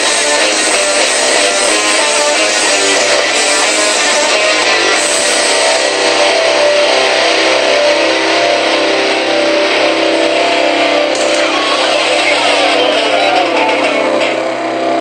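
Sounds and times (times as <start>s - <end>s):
distorted electric guitar chord: 0.0s - 15.0s.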